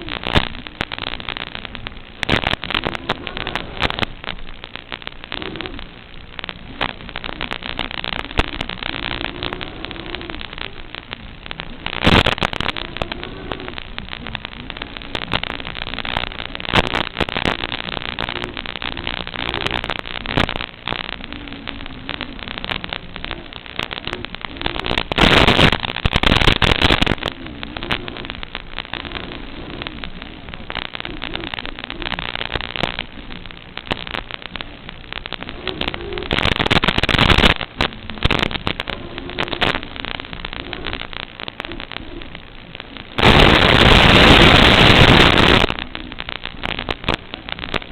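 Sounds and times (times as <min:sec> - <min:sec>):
bursts of static: 0:00.0 - 0:47.9
crackly radio hiss: 0:00.0 - 0:47.9.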